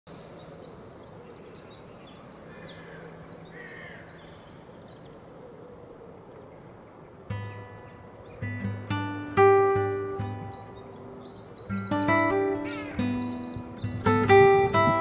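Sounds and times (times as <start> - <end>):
songbirds chirping and trilling: 0.1 - 15.0.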